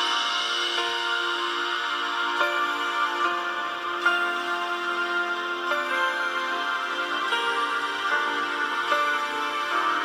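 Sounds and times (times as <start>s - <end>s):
music of held overlapping notes: 0.0s - 10.0s.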